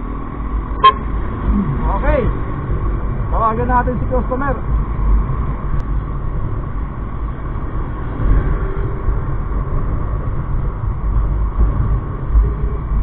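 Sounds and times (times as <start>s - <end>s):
motorcycle engine rumble: 0.0s - 13.0s
wind noise: 0.0s - 13.0s.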